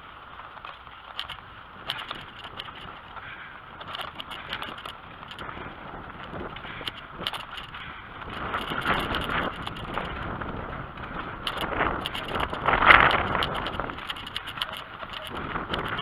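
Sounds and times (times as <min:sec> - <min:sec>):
bicycle tyres rolling: 0:00.0 - 0:16.0
wind buffeting microphone: 0:01.1 - 0:16.0.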